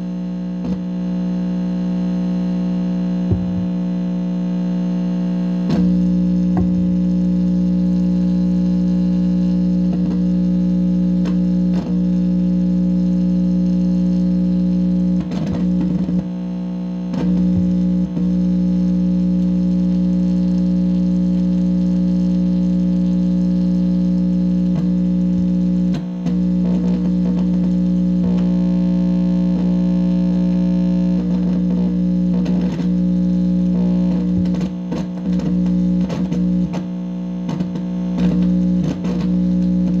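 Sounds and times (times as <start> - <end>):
amplifier electrical buzz: 0.0 - 40.0
speaker crackles and clicks: 0.3 - 40.0.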